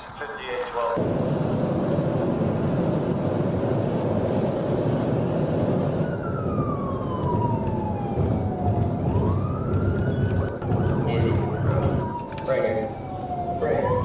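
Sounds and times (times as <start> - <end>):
car engine and road rumble: 1.0 - 14.0
siren wail: 1.0 - 14.0.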